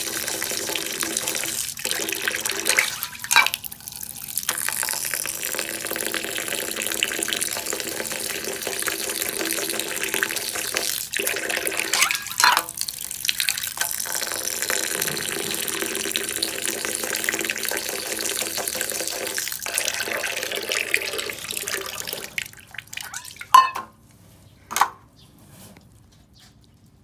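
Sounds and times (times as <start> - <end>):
tap water running into sink: 0.0 - 23.9.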